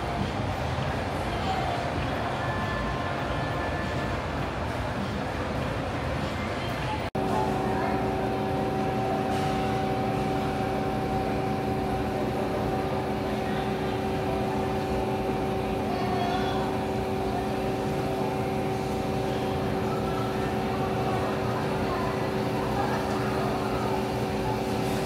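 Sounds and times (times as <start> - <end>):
refrigeration machine hum: 0.0 - 25.0.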